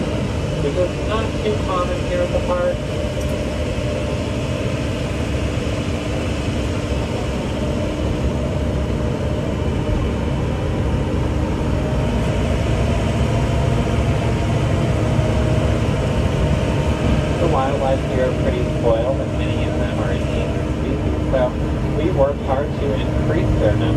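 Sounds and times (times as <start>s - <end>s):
low engine sound: 0.0s - 23.9s.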